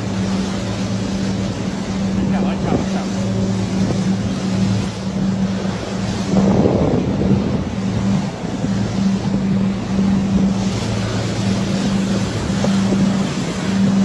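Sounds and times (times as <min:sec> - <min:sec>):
boat engine humming: 0:00.0 - 0:14.0
rushing water: 0:00.0 - 0:14.0
wind: 0:00.0 - 0:14.0.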